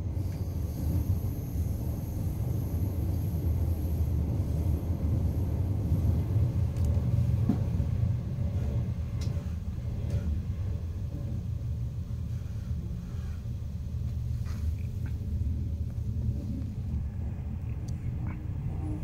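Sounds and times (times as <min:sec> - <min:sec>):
train coach rumbling: 0:00.0 - 0:19.0.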